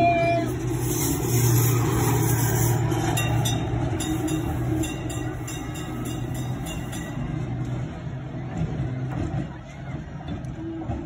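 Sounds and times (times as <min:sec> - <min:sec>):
tram humming: 0:00.0 - 0:11.0
wheels rolling on rails: 0:00.0 - 0:11.0.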